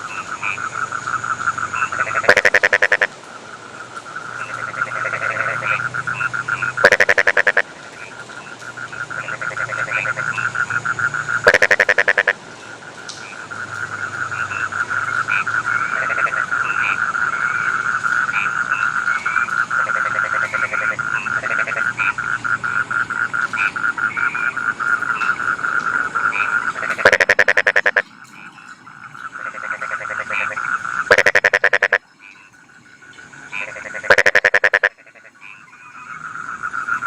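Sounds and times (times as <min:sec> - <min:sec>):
frogs trilling: 0:00.0 - 0:37.0
higher frog calls: 0:00.0 - 0:37.0.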